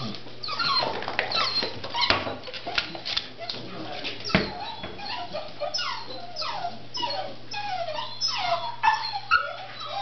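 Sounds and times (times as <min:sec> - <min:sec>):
puppies whining and yipping: 0:00.0 - 0:03.6, 0:04.2 - 0:10.0.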